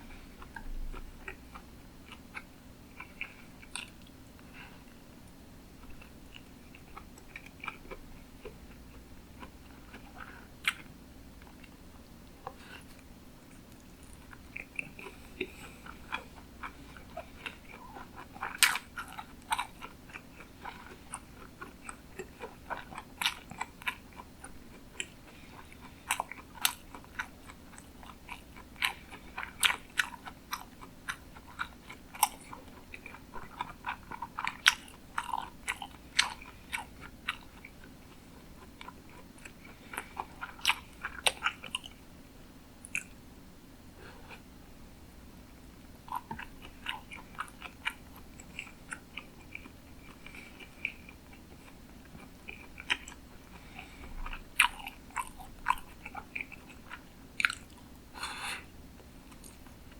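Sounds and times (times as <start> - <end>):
chewing with mouth clicks: 0.1 - 42.0, 42.8 - 43.2, 46.0 - 59.9.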